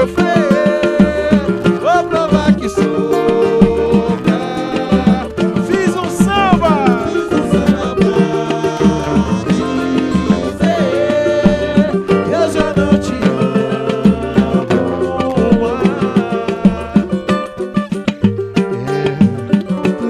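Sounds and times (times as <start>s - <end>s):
samba percussion rhythm: 0.0s - 20.0s.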